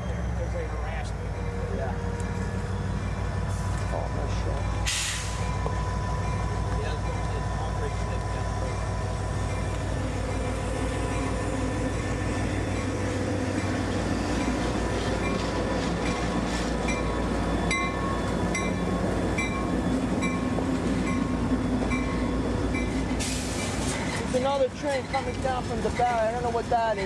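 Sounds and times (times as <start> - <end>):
diesel locomotive engine hum: 0.0 - 27.0
freight cars rumbling past: 0.0 - 27.0.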